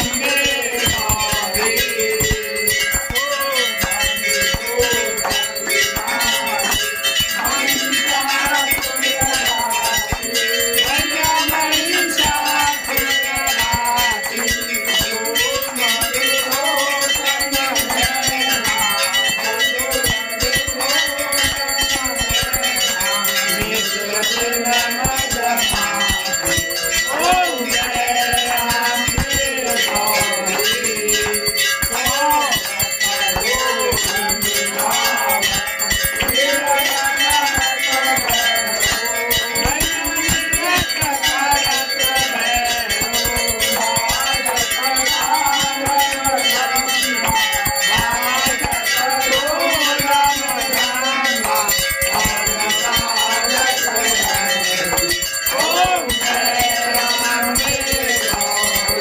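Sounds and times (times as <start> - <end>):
hand bell rung rapidly: 0.0 - 59.0.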